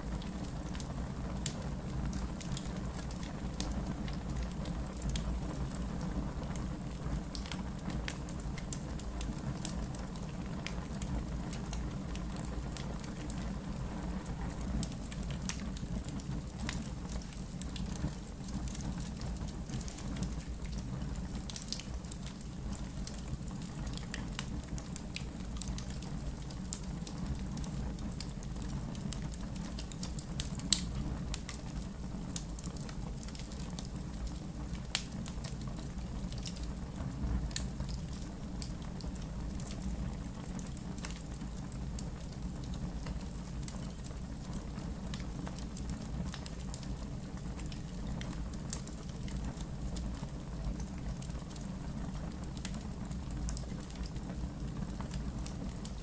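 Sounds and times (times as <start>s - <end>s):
fire flames rumbling: 0.0s - 56.0s
wood fire crackling and popping: 0.0s - 56.0s.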